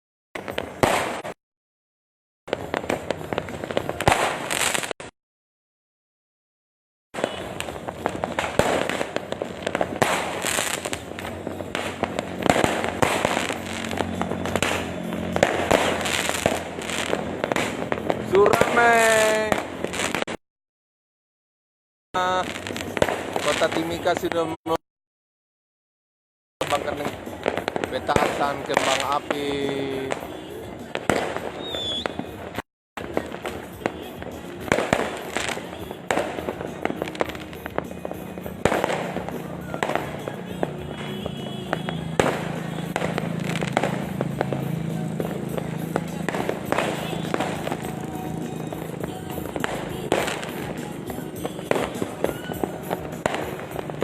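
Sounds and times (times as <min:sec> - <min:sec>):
firecrackers popping and banging: 0:00.4 - 0:01.4, 0:02.5 - 0:05.1, 0:07.2 - 0:20.4, 0:22.2 - 0:24.8, 0:26.6 - 0:54.0
fireworks crackling: 0:00.4 - 0:01.4, 0:02.5 - 0:05.1, 0:07.2 - 0:20.4, 0:22.2 - 0:24.8, 0:26.6 - 0:54.0.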